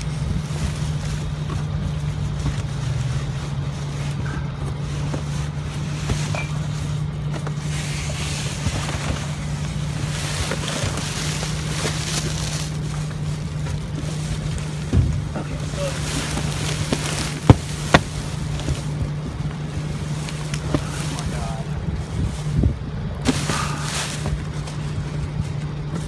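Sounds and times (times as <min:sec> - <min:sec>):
low machine hum: 0:00.0 - 0:26.0
plastic trash bags rustling: 0:00.0 - 0:26.0.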